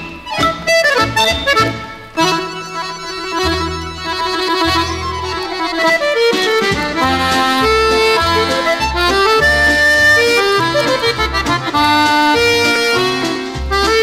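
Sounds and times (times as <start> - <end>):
accordion melody: 0.0 - 14.0
bass line: 0.0 - 14.0.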